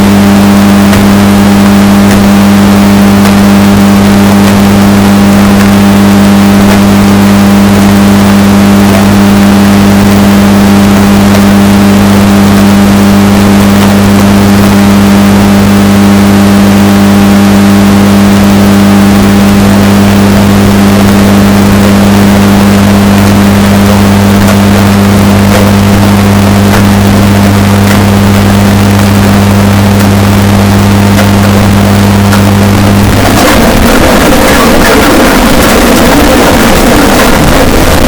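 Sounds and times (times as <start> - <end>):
distorted washing machine hum: 0.0 - 38.0.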